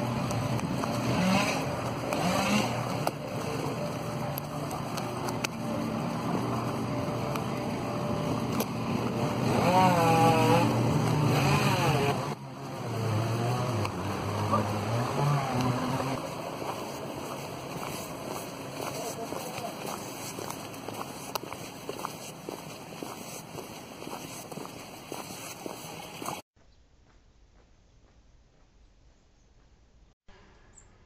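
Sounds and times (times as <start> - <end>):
engines droning: 0.0 - 26.4.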